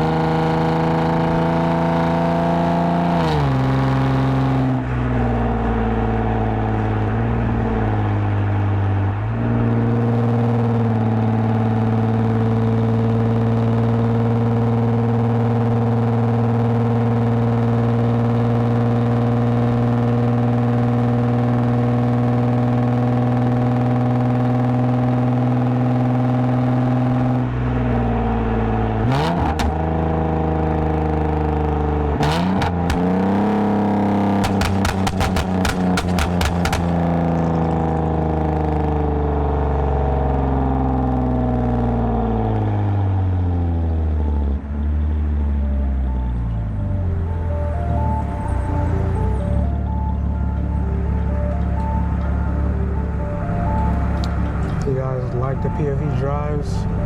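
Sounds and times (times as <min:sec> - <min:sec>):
car engine droning through exhaust: 0:00.0 - 0:57.0.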